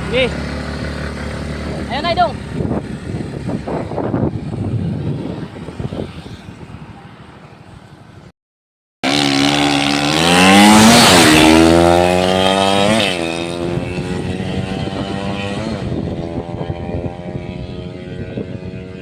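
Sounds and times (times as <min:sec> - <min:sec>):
motorcycle engine revving: 0:00.0 - 0:07.3, 0:09.0 - 0:19.0.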